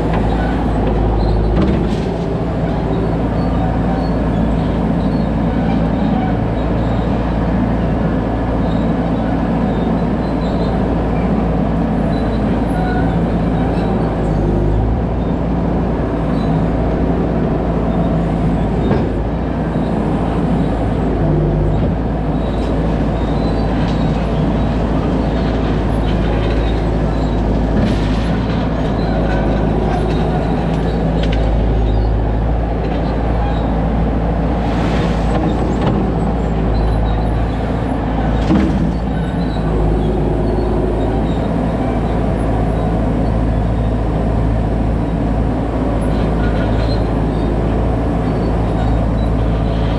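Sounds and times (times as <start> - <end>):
skid steer engine running: 0.0 - 49.9.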